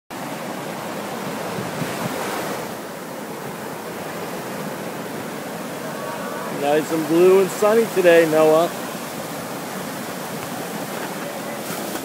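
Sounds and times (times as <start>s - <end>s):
ocean waves breaking: 0.1s - 12.0s.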